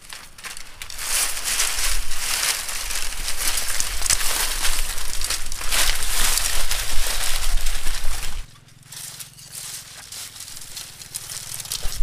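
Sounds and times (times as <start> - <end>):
faint low hum: 0.0 - 12.0
loud rustling and crackling: 0.0 - 12.0.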